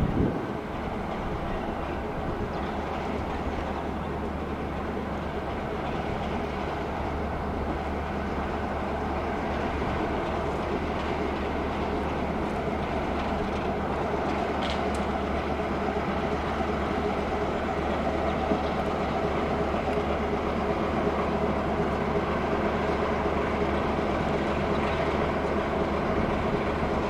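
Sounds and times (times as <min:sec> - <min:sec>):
diesel locomotive engine droning: 0:00.0 - 0:27.0.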